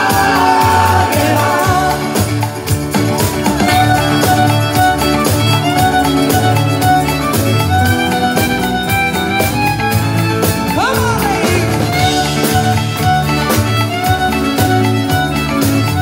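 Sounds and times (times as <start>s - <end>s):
fiddle melody: 0.0s - 16.0s
live band playing: 0.0s - 16.0s.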